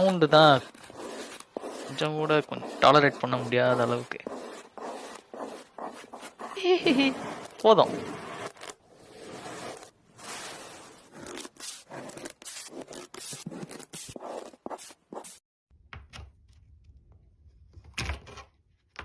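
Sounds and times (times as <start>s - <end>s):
slime being worked by hand: 0.0s - 15.4s.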